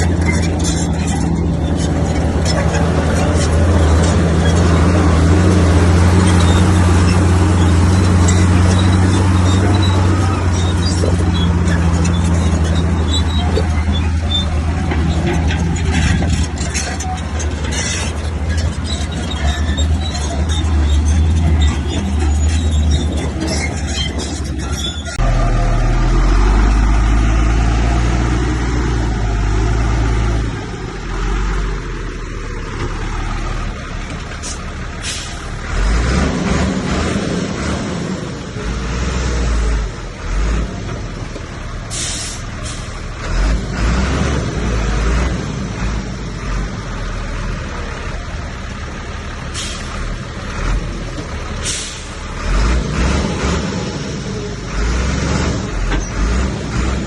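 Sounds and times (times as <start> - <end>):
bulldozer diesel engine working: 0.0 - 57.0.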